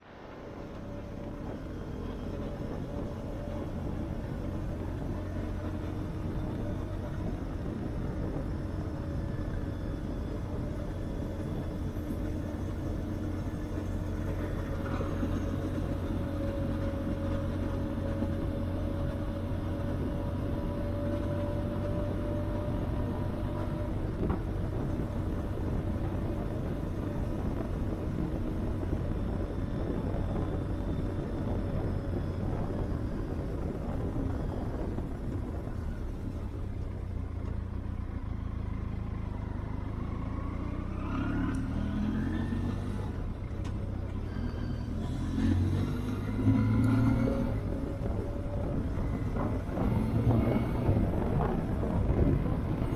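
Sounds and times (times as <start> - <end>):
motorcycle engine running: 1.0 - 52.9.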